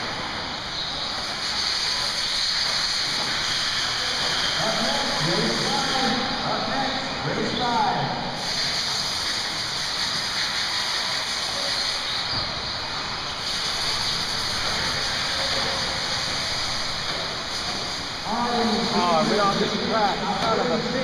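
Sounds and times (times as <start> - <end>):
rc cars steady hiss: 0.0 - 21.0.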